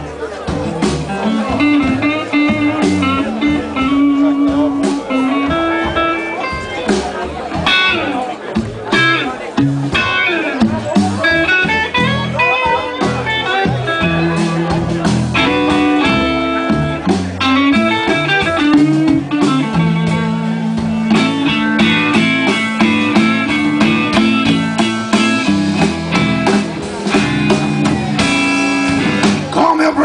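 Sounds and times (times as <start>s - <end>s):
drums: 0.0s - 30.0s
electric bass: 0.0s - 30.0s
electric guitar lead lines: 1.0s - 30.0s.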